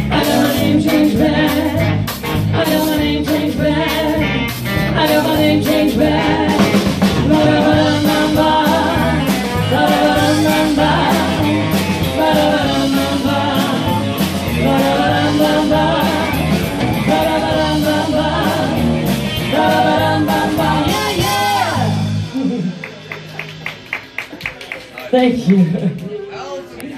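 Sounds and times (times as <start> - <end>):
women singing together: 0.0 - 21.9
drum kit: 0.0 - 24.9
electric guitar: 0.0 - 26.1.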